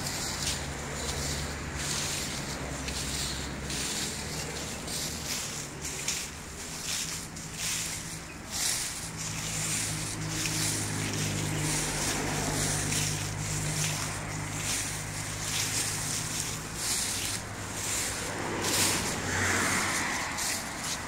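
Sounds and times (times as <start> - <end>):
rushing hiss of wind: 0.0 - 21.0
vehicle engine humming: 0.0 - 21.0.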